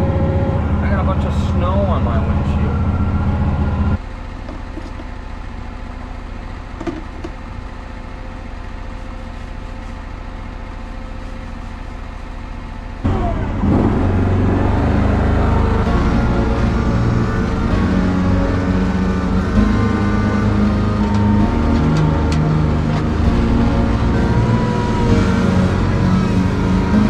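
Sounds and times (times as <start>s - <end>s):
mower engine idling: 0.0s - 27.0s.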